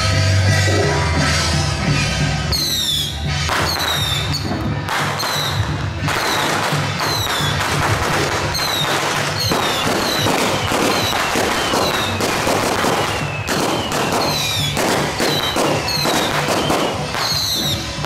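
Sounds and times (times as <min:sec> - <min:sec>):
music: 0:00.0 - 0:18.0
firecrackers crackling: 0:02.0 - 0:18.0.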